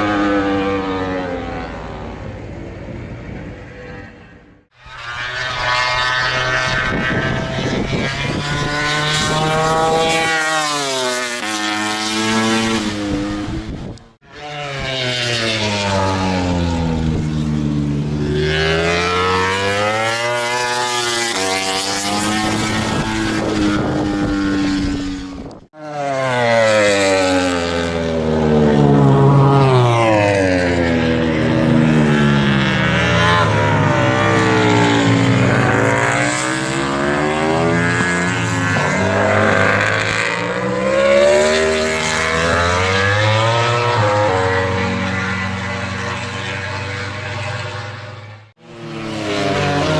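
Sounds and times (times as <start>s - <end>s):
motorcycle engine revving hard: 5.0s - 49.9s.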